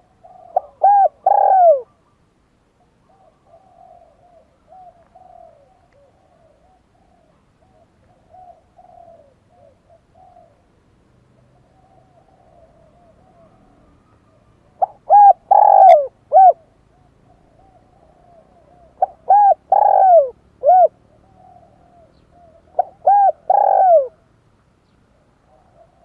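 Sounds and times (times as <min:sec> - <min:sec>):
dove cooing: 0:00.0 - 0:24.4, 0:25.1 - 0:26.0.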